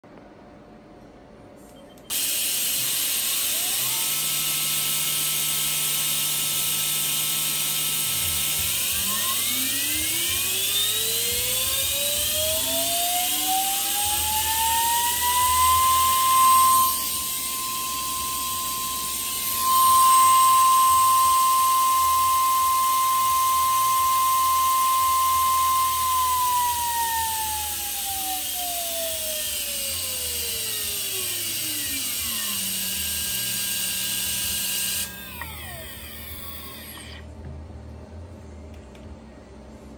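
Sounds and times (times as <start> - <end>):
electric motor spindle whine: 2.1 - 37.3.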